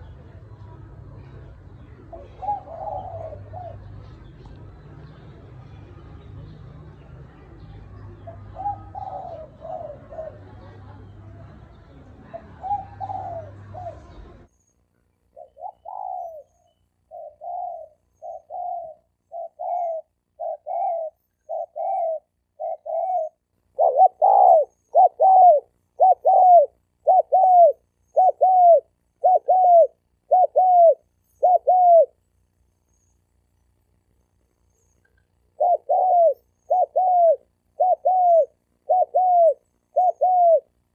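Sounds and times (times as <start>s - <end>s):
background hum: 0.0s - 40.9s
doves cooing: 1.2s - 6.4s, 7.8s - 14.5s, 15.4s - 32.2s, 35.4s - 40.9s.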